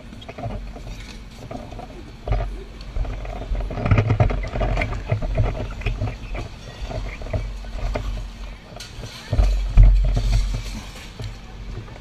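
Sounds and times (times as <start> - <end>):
fire engine motors rumbling: 0.0 - 12.0
fire hose being dragged: 0.0 - 12.0.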